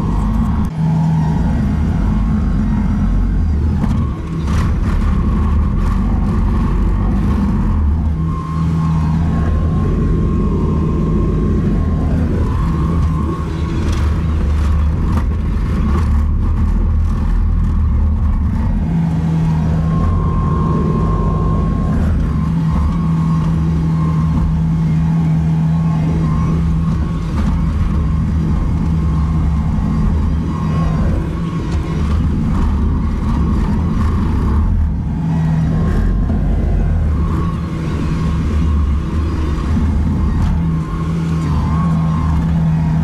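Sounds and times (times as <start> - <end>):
diesel engine running under load: 0.0 - 43.0
thin steady whine: 0.0 - 43.0.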